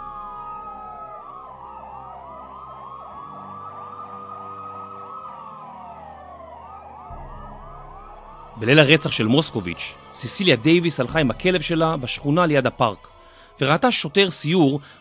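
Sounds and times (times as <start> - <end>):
yelping siren warble: 0.0 - 13.9
low music drone: 0.0 - 15.0
siren wail: 0.0 - 15.0.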